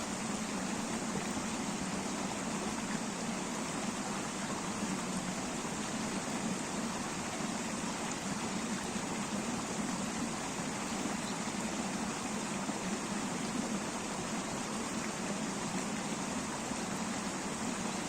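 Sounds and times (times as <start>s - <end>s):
stream rushing and babbling: 0.0s - 18.0s.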